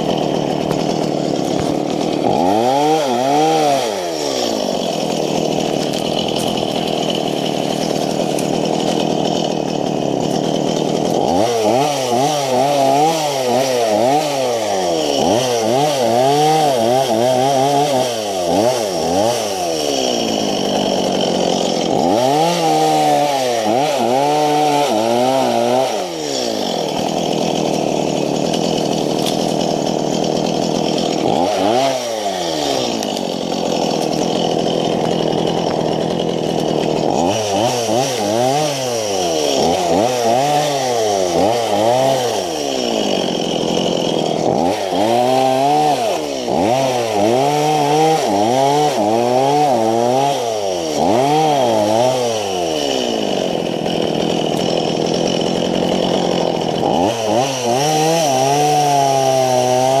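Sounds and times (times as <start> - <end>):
chainsaw engine revving: 0.0 - 60.0.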